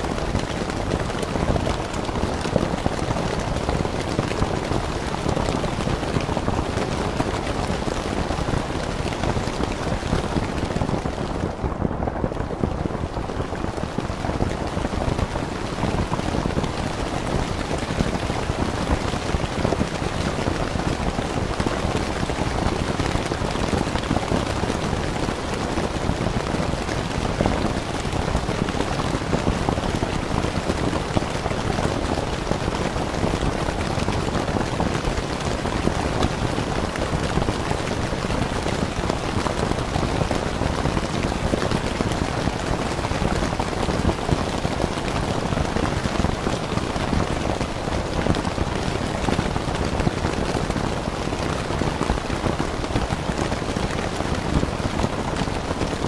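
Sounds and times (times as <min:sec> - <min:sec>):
rain falling on a tent: 0:00.0 - 0:56.0.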